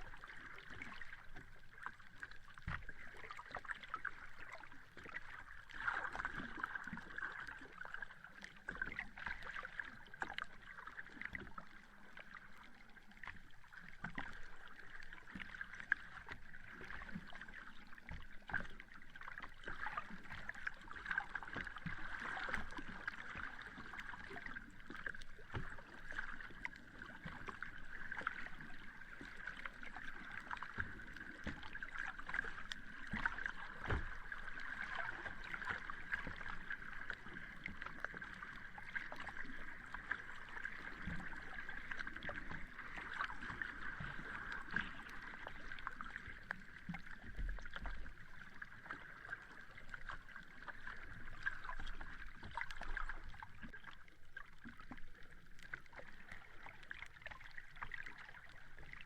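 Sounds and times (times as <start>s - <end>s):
sea water lapping at shore: 0.0s - 59.0s.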